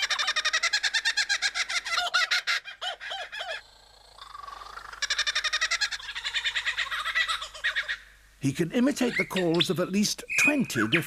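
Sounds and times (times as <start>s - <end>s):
kookaburra laughing call: 0.0s - 8.2s, 8.9s - 9.8s.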